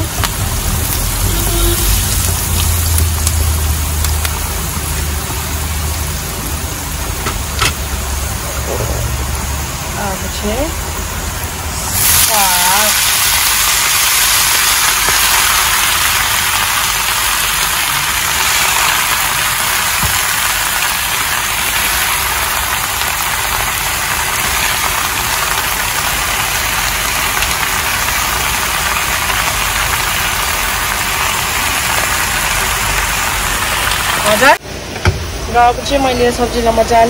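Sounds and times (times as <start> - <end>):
greens sizzling in hot oil: 0.0 - 8.2, 9.8 - 34.6.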